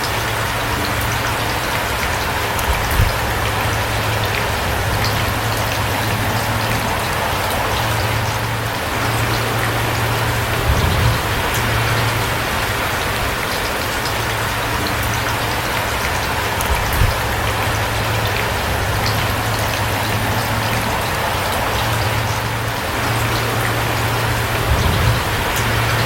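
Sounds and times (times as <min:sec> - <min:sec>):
low steady rumble: 0:00.0 - 0:26.0
steady rain: 0:00.0 - 0:26.0
low thumps: 0:02.2 - 0:13.9, 0:14.5 - 0:26.0.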